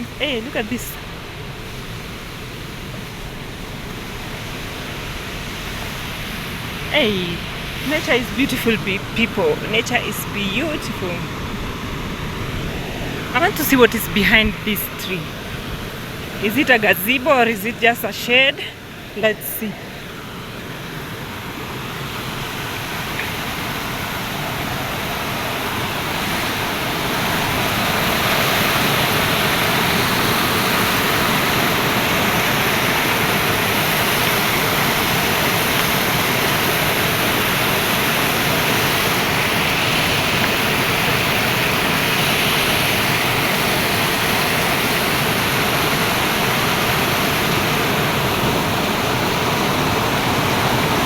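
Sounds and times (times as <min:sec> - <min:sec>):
waterfall roar: 0:00.0 - 0:51.0.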